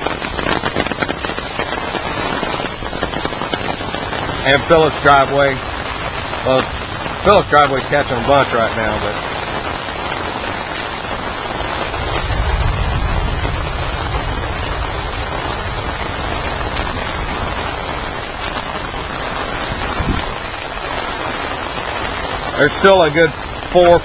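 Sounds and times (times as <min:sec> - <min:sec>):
heavy rain falling: 0:00.0 - 0:24.0
wind rumble on microphone: 0:00.0 - 0:24.0.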